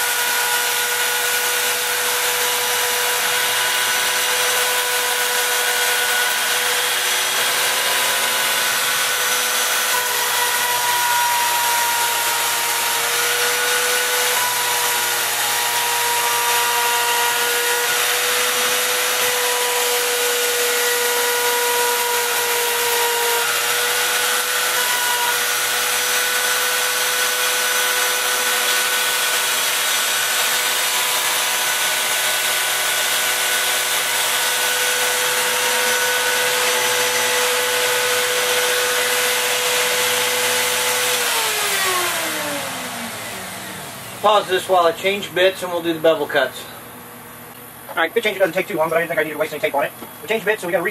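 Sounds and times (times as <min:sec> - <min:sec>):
cnc router spindle whine: 0:00.0 - 0:45.8.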